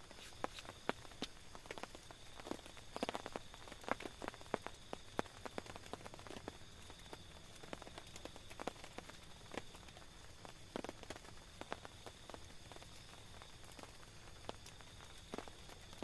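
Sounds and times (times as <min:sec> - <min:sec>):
hiss of rain: 0:00.0 - 0:16.0
raindrops tapping on a tent: 0:00.0 - 0:16.0.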